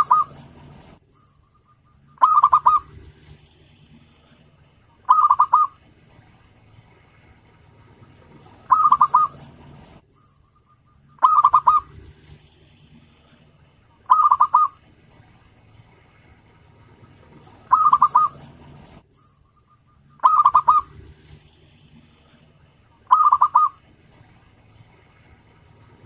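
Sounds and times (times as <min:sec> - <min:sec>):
dove cooing: 0:00.0 - 0:01.0, 0:01.6 - 0:10.0, 0:10.6 - 0:19.0, 0:19.9 - 0:24.4.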